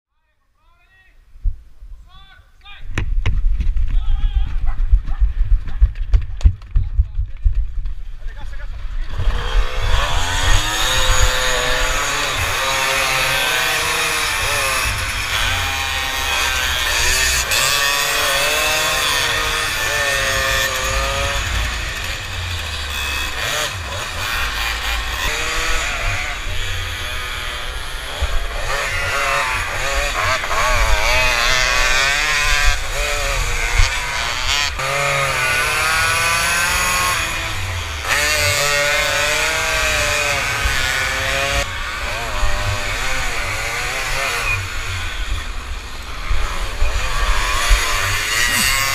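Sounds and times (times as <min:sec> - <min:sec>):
other moped engines: 0:08.0 - 0:48.9
moped engine revving: 0:08.8 - 0:48.9.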